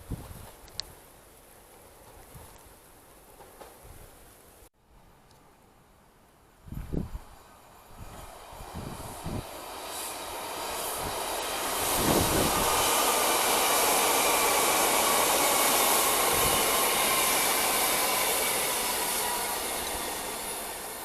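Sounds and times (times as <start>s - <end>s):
train wheels rushing on rail: 1.5s - 4.3s, 6.8s - 21.0s.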